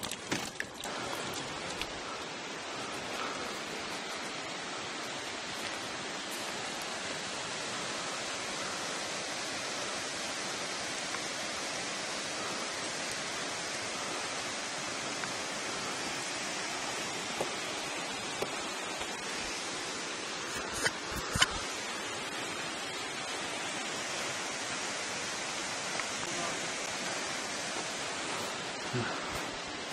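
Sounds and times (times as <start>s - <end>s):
rushing water: 0.0s - 29.9s.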